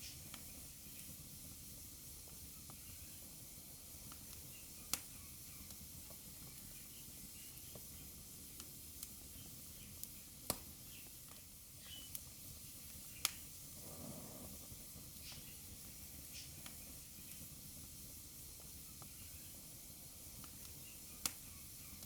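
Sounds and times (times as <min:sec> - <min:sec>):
fire crackles and pops: 0:00.0 - 0:22.0
fire hissing: 0:00.0 - 0:22.0
soft low rush of flame: 0:00.0 - 0:22.0.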